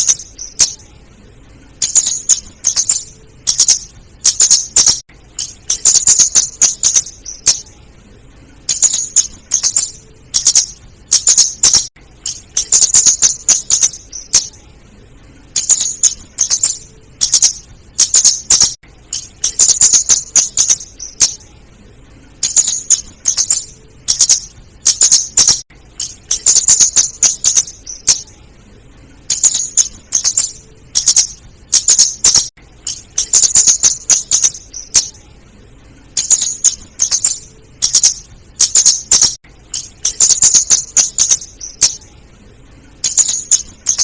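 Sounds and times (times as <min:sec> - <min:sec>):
bird calling high-pitched chips: 0:00.0 - 0:00.9, 0:01.7 - 0:07.7, 0:08.6 - 0:14.6, 0:15.5 - 0:21.5, 0:22.4 - 0:28.4, 0:29.2 - 0:35.2, 0:36.1 - 0:42.1, 0:43.0 - 0:44.0.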